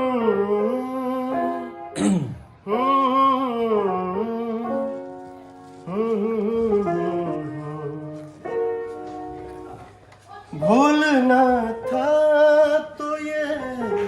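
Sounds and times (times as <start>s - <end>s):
person singing wordless melody: 0.0s - 8.7s, 10.3s - 14.0s.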